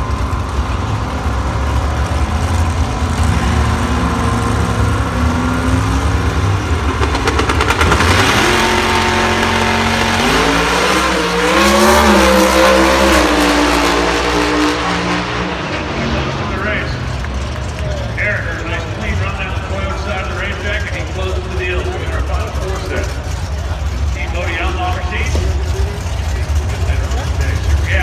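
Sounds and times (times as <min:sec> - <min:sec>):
drag car engine accelerating hard: 0:00.0 - 0:28.0.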